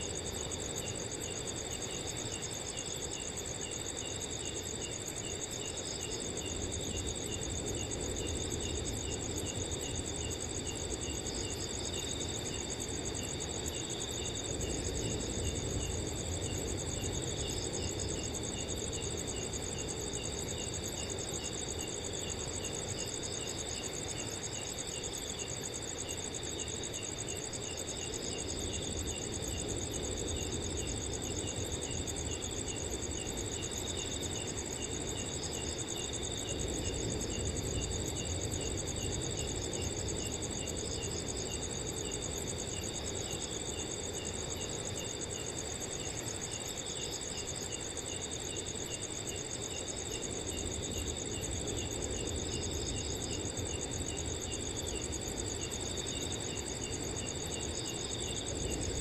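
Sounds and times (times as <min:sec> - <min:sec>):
cricket chirping: 0:00.0 - 0:59.0
crickets trilling: 0:00.0 - 0:59.0.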